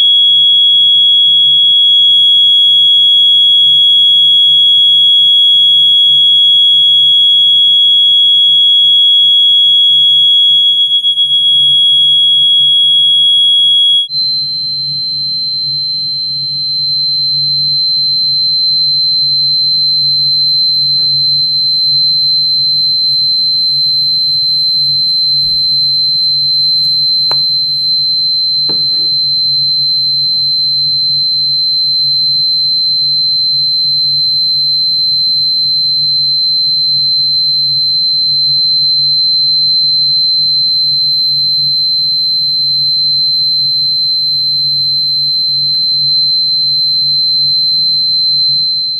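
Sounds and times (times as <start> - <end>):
high-pitched sine tone: 0.0 - 48.9.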